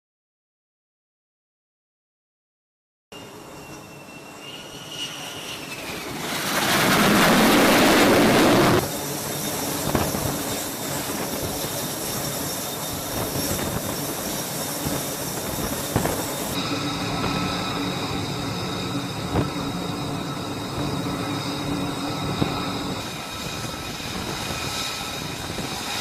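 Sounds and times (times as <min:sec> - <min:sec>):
jet engine roaring: 0:03.2 - 0:26.0
jet engine whining: 0:03.2 - 0:26.0.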